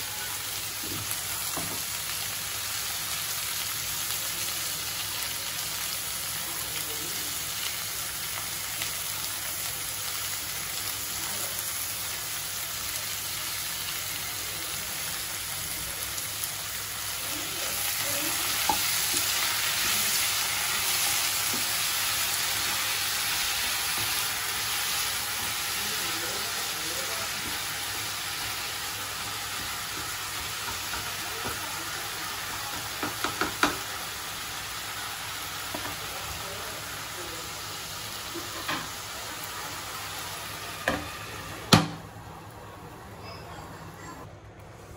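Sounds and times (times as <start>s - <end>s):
vegetables sizzling in frying pan: 0.0s - 44.0s.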